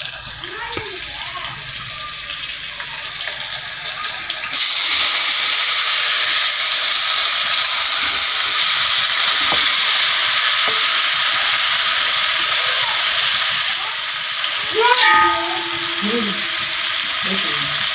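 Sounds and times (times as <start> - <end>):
meat sizzling in hot oil: 0.0 - 17.9.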